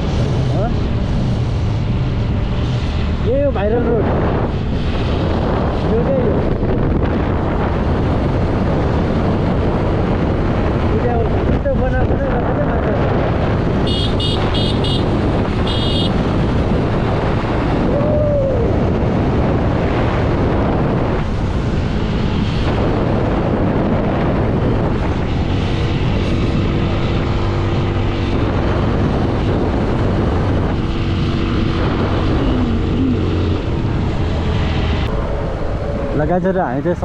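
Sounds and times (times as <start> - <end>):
wind rush on microphone: 0.0 - 37.0.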